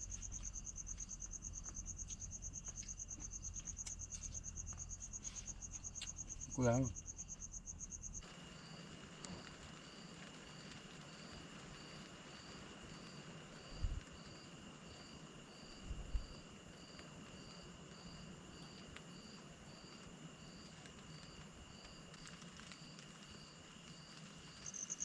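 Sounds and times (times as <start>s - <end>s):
cricket chirping: 0.0s - 25.0s
insects trilling: 0.0s - 25.0s.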